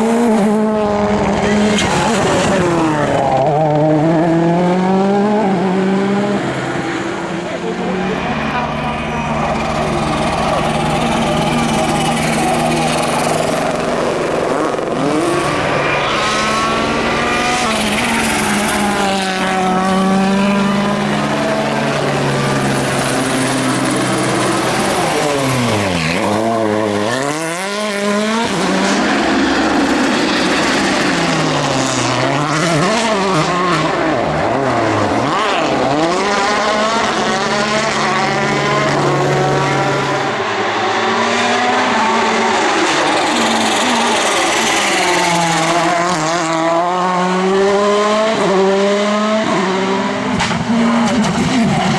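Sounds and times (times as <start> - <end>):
rally car engines revving: 0.0 - 51.9.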